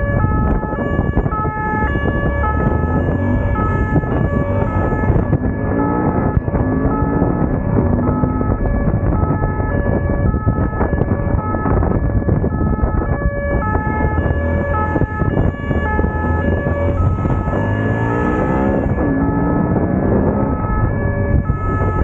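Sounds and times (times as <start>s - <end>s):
motorcycle engine rumbling: 0.0s - 22.0s
two-tone police siren: 0.0s - 22.0s
wind noise: 0.0s - 22.0s.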